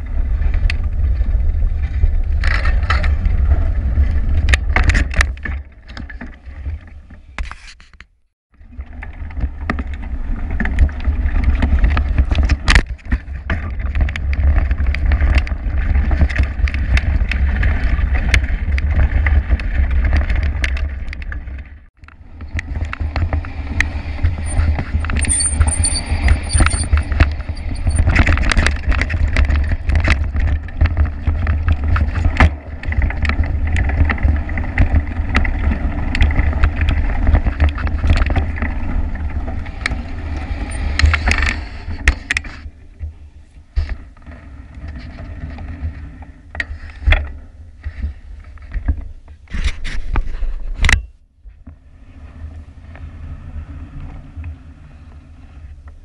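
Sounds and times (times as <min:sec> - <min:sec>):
wind rumble on microphone: 0:00.0 - 0:07.7, 0:08.5 - 0:56.0
bike rattling over ground: 0:00.0 - 0:07.8, 0:08.6 - 0:50.9.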